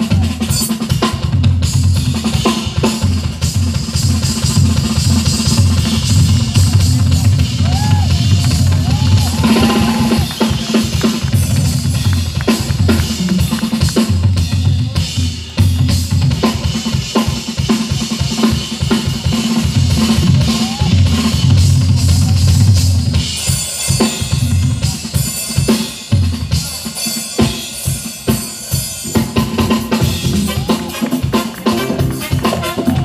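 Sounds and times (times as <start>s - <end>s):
drum kit playing fast: 0.0s - 33.0s.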